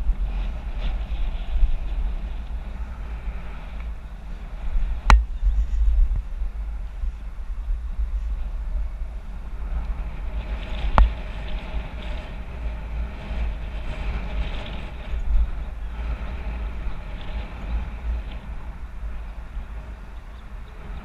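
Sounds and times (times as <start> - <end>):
bicycle riding hiss: 0.0 - 21.0
wind buffeting microphone: 0.0 - 21.0.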